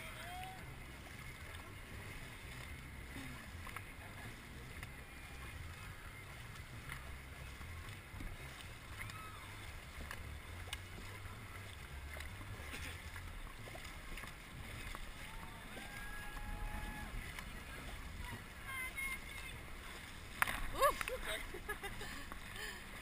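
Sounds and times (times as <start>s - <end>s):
water splashing along boat hull: 0.0s - 23.0s
wind rumble on microphone: 0.0s - 23.0s.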